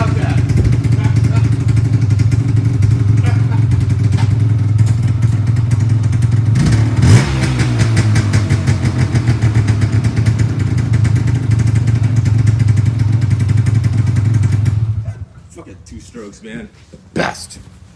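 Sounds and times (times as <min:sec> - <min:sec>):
two-stroke engine idling and revving: 0:00.0 - 0:15.2.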